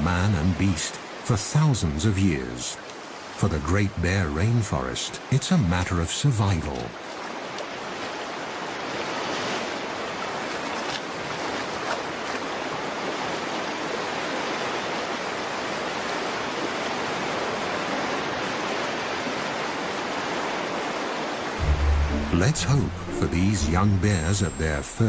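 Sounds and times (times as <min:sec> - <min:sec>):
faint water splashes: 0:00.0 - 0:24.8
stream water rushing: 0:00.0 - 0:25.0.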